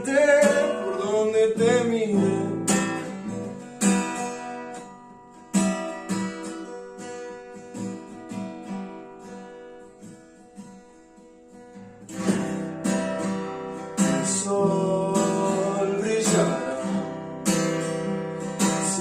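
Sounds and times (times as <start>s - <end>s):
acoustic guitar strummed chords: 0.0s - 19.0s
picked guitar notes: 0.0s - 19.0s.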